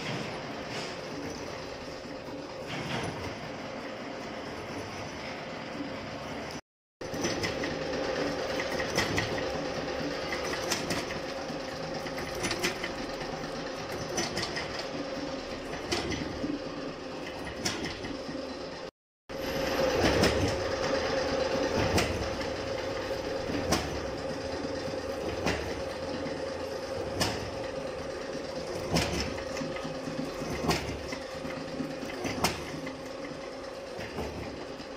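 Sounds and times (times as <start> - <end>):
machine knocking: 0.0 - 6.3, 7.0 - 34.9
gear cutting machine hum: 0.0 - 34.9.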